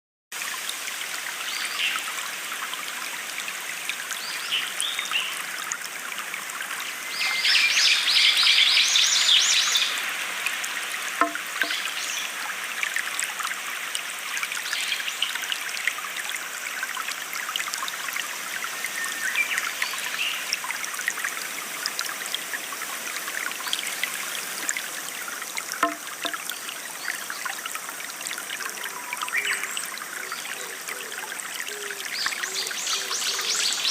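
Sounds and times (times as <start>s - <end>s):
stream trickling: 0.3s - 33.9s.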